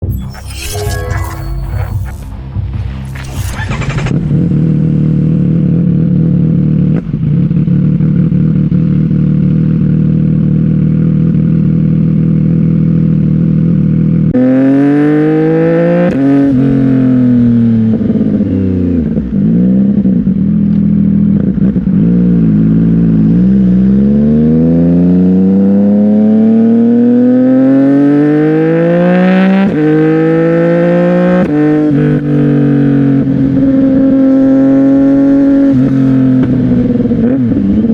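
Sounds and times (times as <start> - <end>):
motorcycle revving and accelerating: 3.0 - 37.9.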